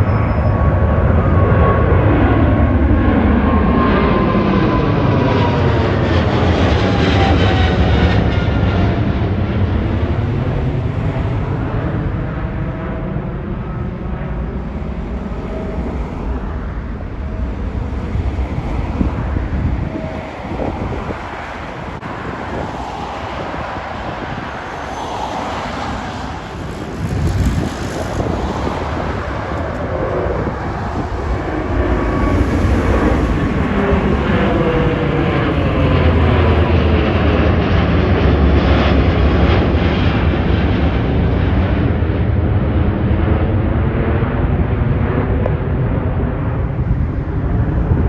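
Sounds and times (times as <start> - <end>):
jet airliner passing overhead: 0.0 - 48.0.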